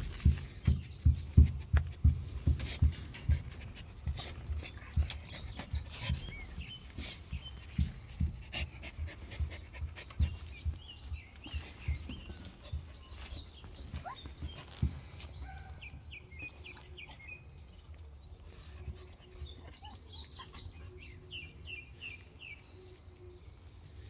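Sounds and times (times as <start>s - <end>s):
puppies panting: 0.0s - 24.0s.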